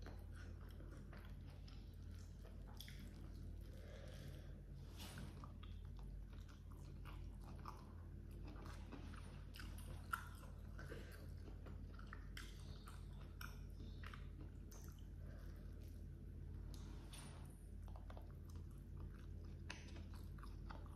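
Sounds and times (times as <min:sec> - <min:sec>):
close chewing with wet clicks: 0:00.0 - 0:04.3, 0:05.3 - 0:16.1, 0:17.7 - 0:20.9
steady low hum: 0:00.0 - 0:20.9.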